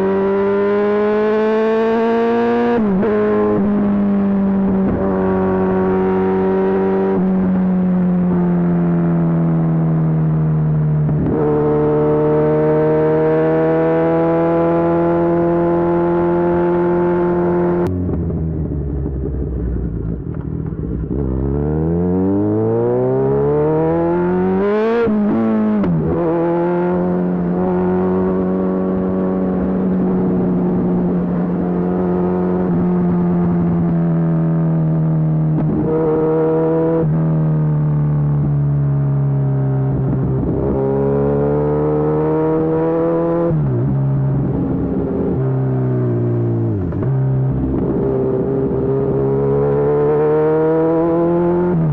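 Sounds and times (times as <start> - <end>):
motorcycle engine revving on the move: 0.0 - 51.9.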